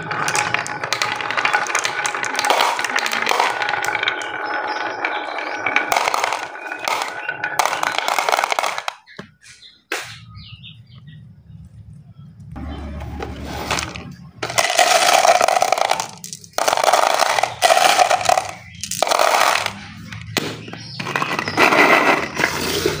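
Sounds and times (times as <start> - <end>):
marbles rattling in plastic canister: 0.0 - 9.2, 13.6 - 23.0.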